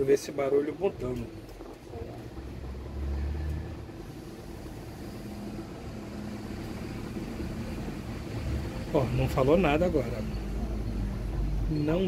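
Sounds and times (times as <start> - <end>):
desktop computer humming: 0.0 - 12.0.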